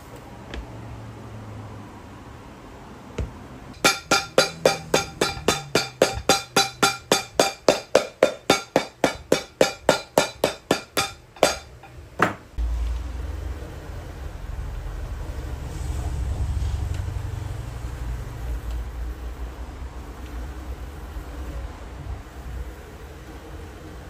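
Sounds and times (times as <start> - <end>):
workshop machine rumbling: 3.0 - 24.0.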